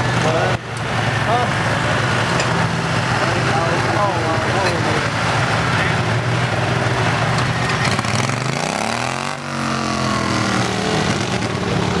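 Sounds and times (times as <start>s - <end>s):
lawn mower engine under load: 0.0s - 12.0s.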